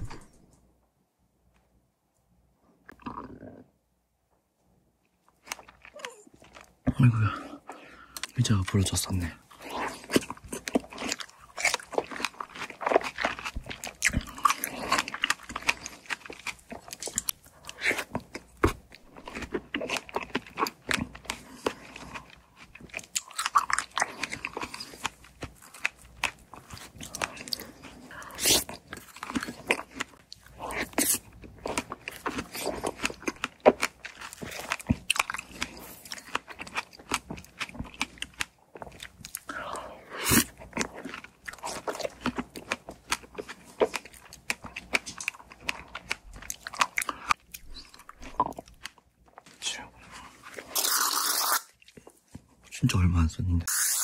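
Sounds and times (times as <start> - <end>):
person chewing wetly: 5.3 - 52.7.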